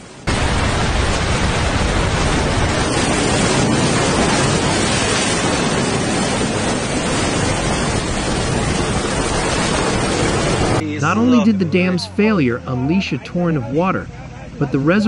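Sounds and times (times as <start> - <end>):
rushing floodwater torrent: 0.2 - 15.0.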